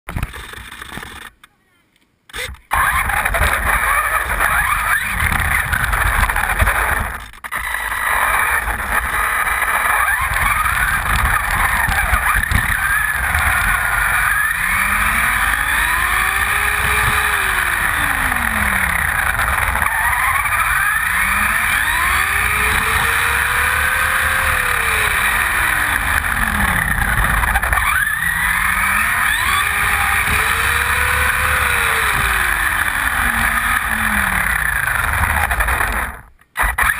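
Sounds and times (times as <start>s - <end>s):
toy truck motor whining: 0.2s - 1.4s, 2.3s - 36.9s
small tyres rumbling on pavement: 2.7s - 36.9s.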